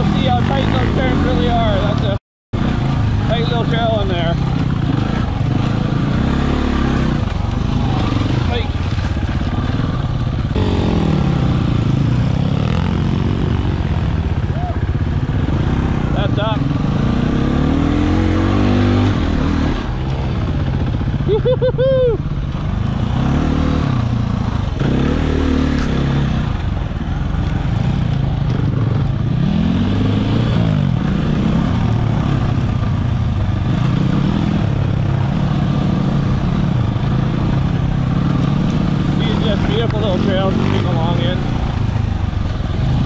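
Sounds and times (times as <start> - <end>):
dirt bike engine revving: 0.0 - 21.8, 22.5 - 43.0.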